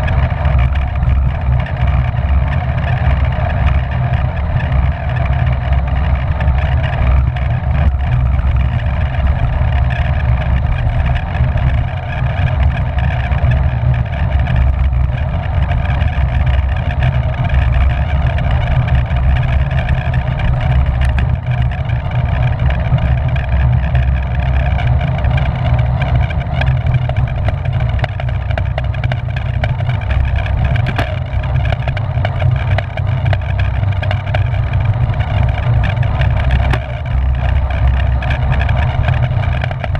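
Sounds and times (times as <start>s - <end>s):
heavy low rumble: 0.0s - 39.9s
wind rushing over microphone: 0.0s - 39.9s.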